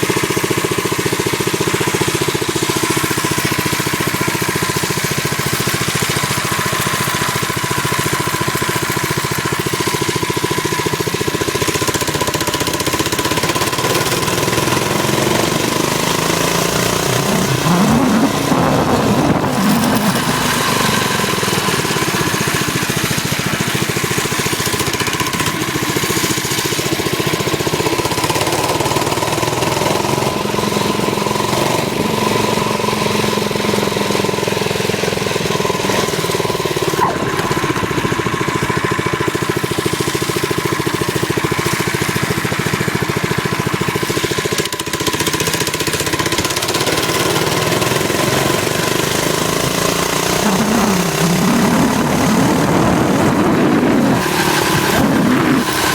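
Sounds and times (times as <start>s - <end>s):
minibike engine running: 0.0s - 55.9s.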